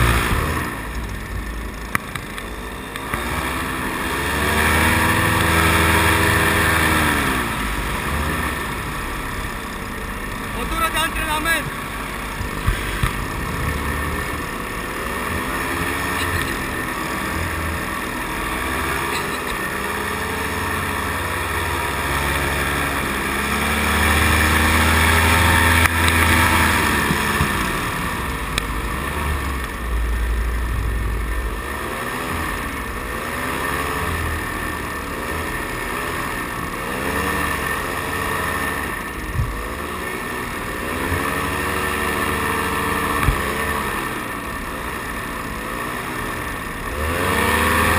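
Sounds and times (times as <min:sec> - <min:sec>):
paramotor engine and propeller: 0:00.0 - 0:47.9.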